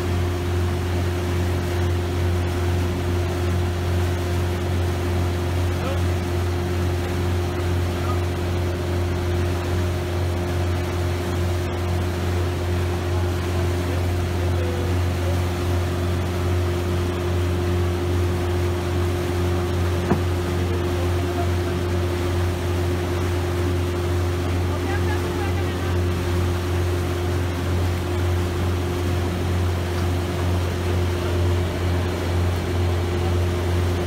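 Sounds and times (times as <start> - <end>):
boat engine droning: 0.0 - 34.0
water rushing past hull: 0.0 - 34.0.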